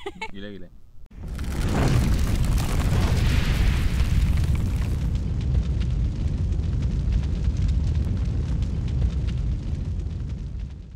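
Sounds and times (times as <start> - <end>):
faint crackles: 1.1 - 10.9
deep steady rumble: 1.2 - 10.9.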